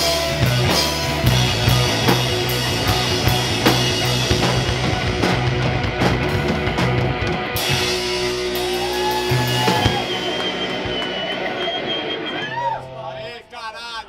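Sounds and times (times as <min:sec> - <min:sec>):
drum kit: 0:00.0 - 0:13.0
bass guitar: 0:00.0 - 0:13.3
electric guitar: 0:00.0 - 0:13.3.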